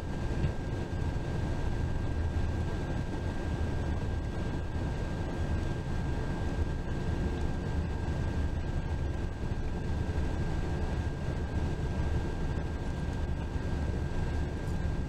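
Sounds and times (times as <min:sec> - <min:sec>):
bus engine and tyre rumble: 0:00.0 - 0:15.0.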